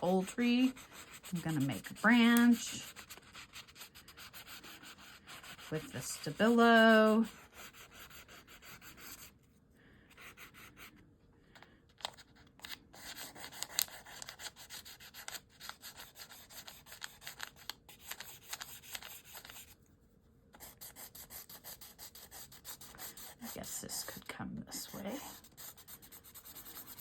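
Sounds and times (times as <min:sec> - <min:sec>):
pencil scratching on paper: 0:00.0 - 0:09.3, 0:10.2 - 0:11.0, 0:12.9 - 0:19.8, 0:20.6 - 0:27.0.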